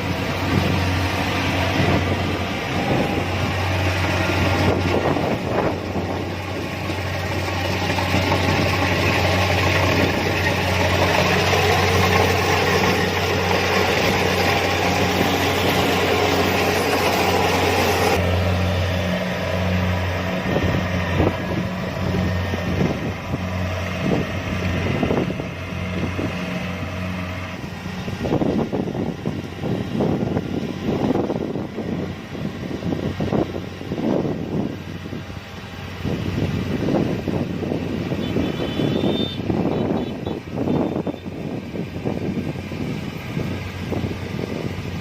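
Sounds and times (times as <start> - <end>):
diesel engine hum: 0.0 - 45.0
loud rushing mechanical noise: 0.0 - 45.0.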